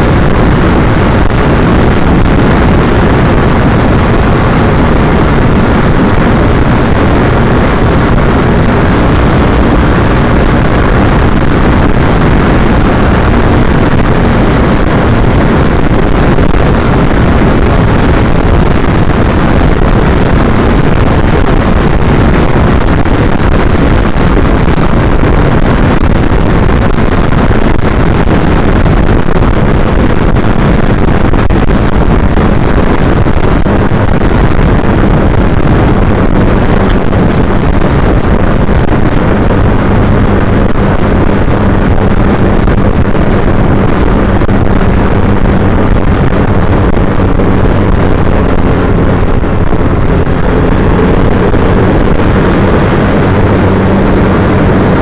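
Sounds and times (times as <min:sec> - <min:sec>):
motorcycle engine humming: 0:00.0 - 0:55.0
wind rushing on microphone: 0:00.0 - 0:55.0.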